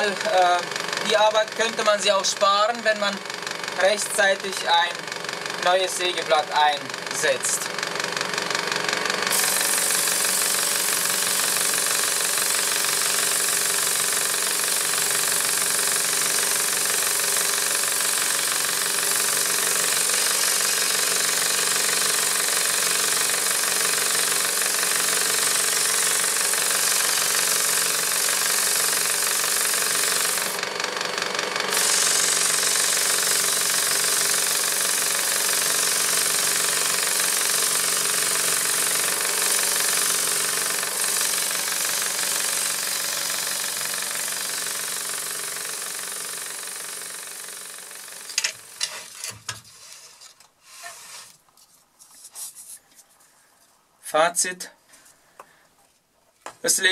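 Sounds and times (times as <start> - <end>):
scroll saw sanding buzz: 0.0 - 51.4.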